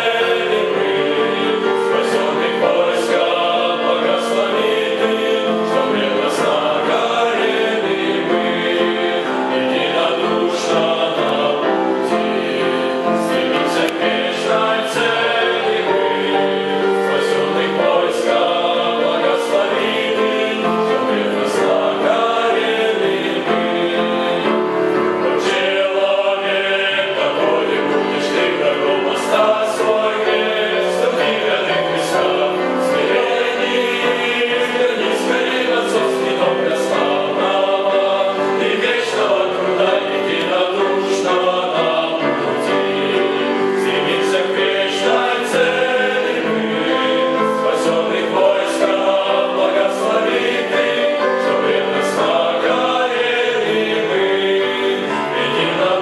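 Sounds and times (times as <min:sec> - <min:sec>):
male choir singing a hymn: 0:00.0 - 0:56.0.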